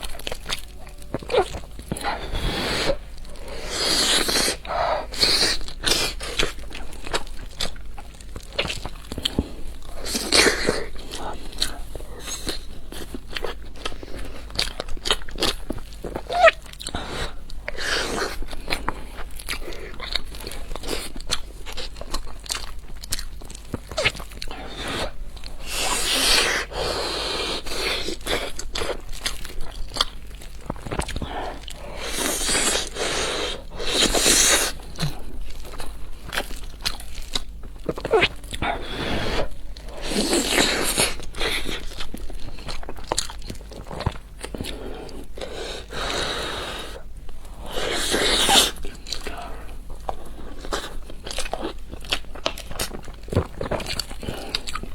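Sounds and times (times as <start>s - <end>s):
person chewing and crunching food: 0.0s - 54.9s.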